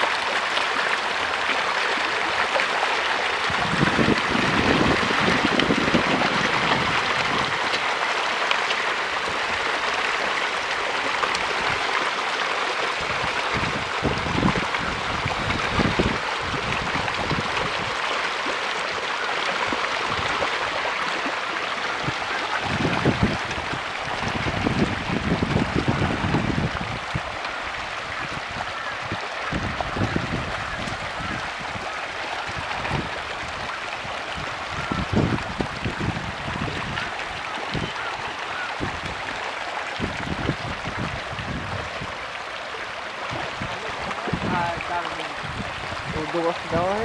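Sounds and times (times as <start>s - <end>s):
water churning and splashing: 0.0s - 47.0s.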